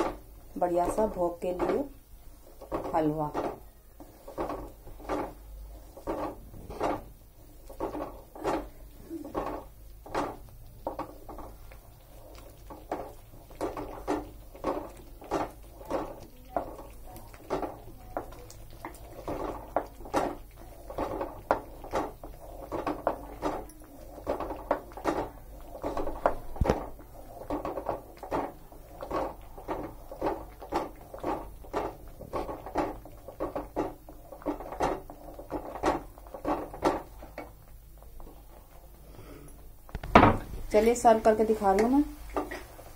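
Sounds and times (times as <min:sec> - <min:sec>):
spatula scraping thick food in pan: 0:00.0 - 0:39.8.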